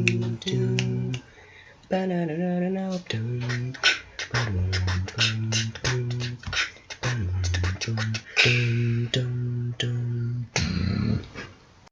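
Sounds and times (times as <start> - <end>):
person beatboxing: 0.0 - 1.2, 2.8 - 11.6.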